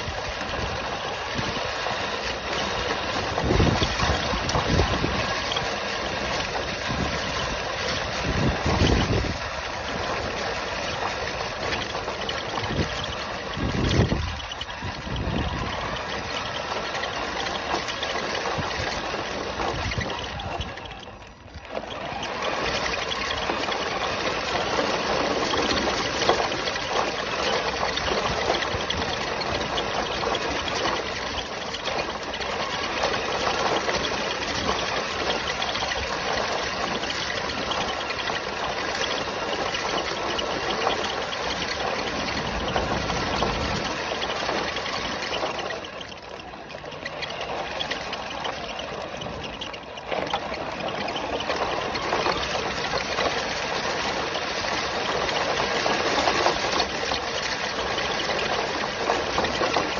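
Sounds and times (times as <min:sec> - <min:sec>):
toy truck drivetrain running: 0:00.0 - 0:59.9
tyres rolling over gravel: 0:00.0 - 0:59.9.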